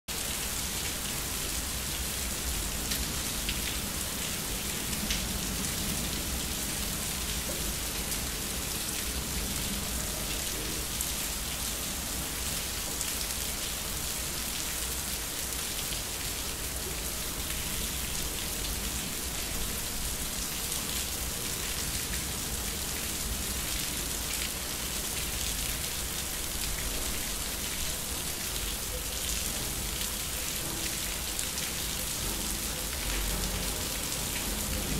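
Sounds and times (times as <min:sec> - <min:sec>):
rain pattering on concrete: 0:00.1 - 0:34.9.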